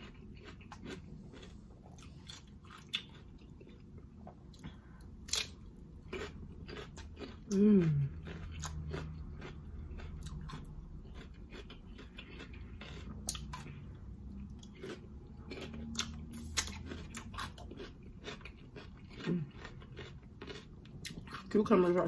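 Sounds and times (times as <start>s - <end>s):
chewing crisp cucumber: 0.0s - 22.0s
steady low hum: 0.0s - 22.0s.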